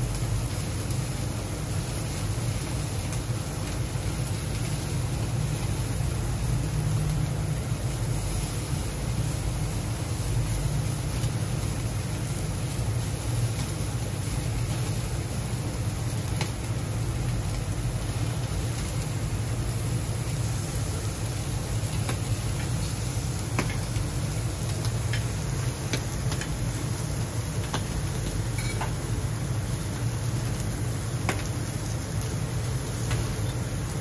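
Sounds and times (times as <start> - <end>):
gas burner rumble: 0.0 - 34.0
meat sizzling: 0.0 - 34.0.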